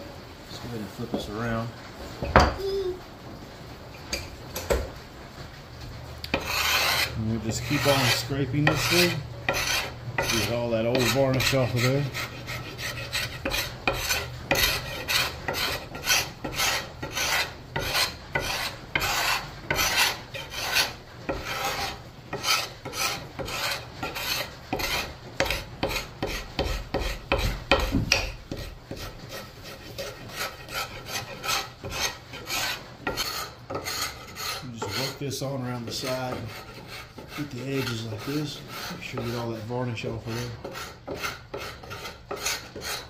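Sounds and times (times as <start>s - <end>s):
steel scraping wooden handle: 6.3s - 43.0s.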